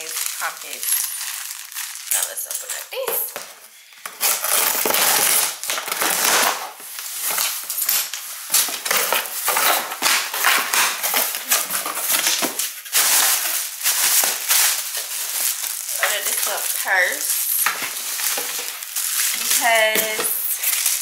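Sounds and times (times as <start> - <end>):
packaging being torn and crinkled: 0.0 - 21.0.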